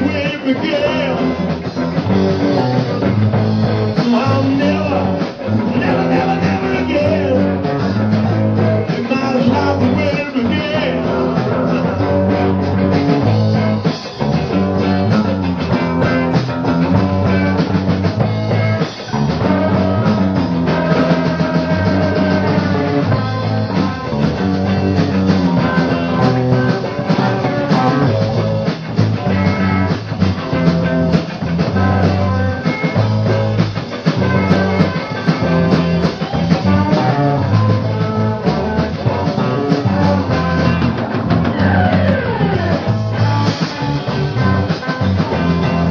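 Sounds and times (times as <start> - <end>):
rock band playing: 0.0 - 45.9.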